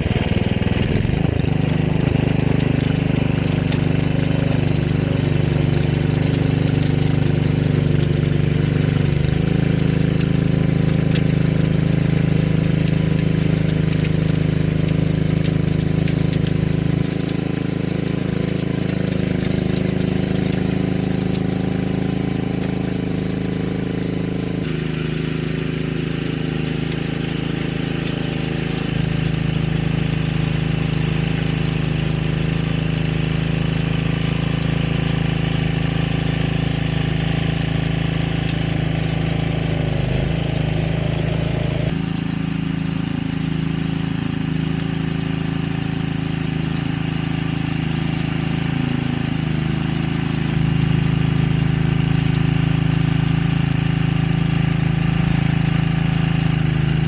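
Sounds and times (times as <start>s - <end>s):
tiller petrol engine running: 0.0s - 57.0s.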